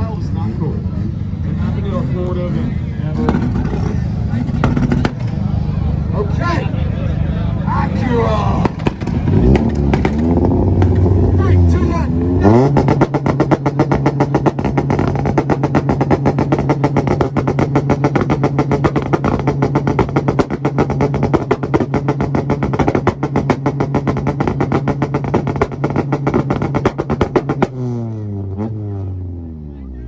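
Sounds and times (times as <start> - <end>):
exhaust pops and crackles: 0.0 - 29.5
car engine on launch limiter: 0.0 - 30.0.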